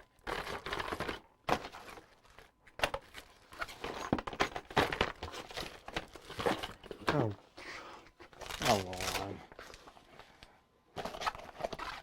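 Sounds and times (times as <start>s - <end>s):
packaging rustling and crinkling: 0.0s - 7.3s, 8.2s - 12.0s.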